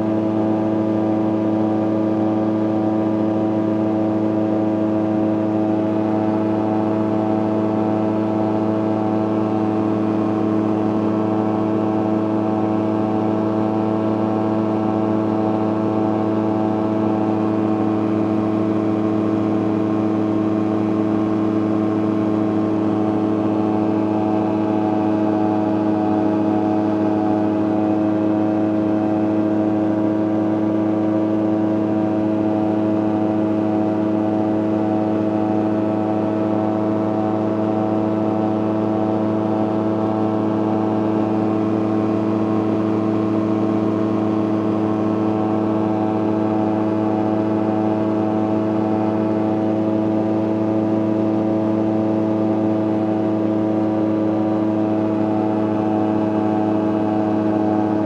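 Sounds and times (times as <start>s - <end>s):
ultralight engine and propeller drone: 0.0s - 58.0s.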